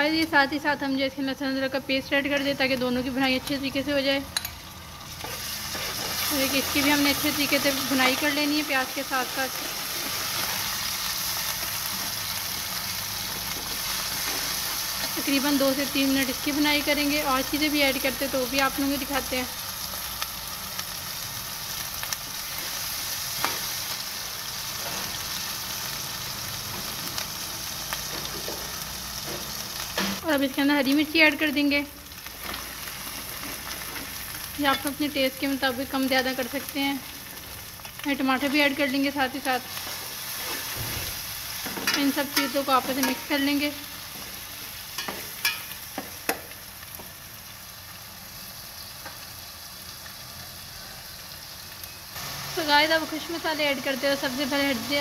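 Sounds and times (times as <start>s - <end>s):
onions sizzling in hot oil: 0.0s - 55.0s.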